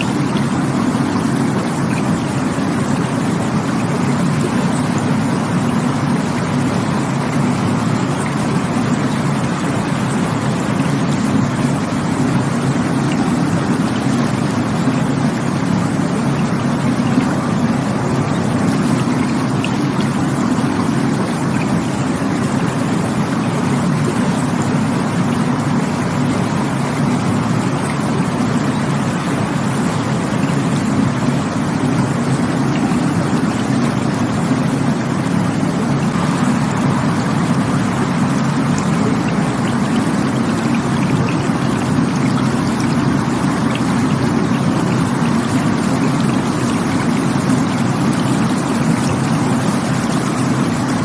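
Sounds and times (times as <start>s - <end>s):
rushing water: 0.0s - 51.0s.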